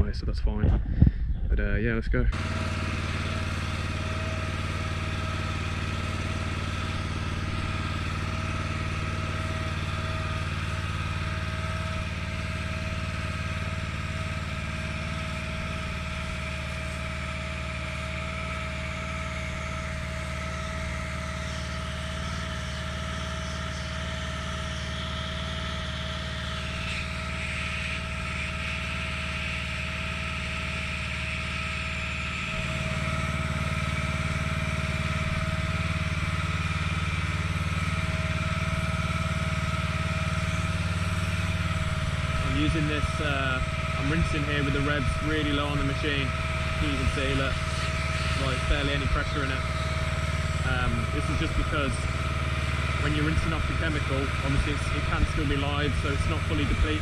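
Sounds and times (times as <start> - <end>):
pressure washer engine running: 2.3 - 57.0.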